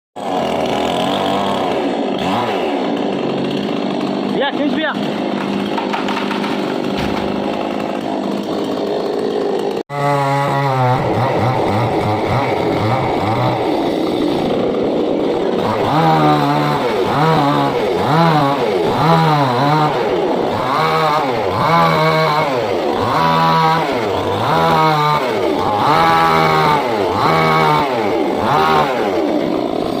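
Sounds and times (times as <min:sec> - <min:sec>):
chainsaw engine revving: 0:00.2 - 0:30.0.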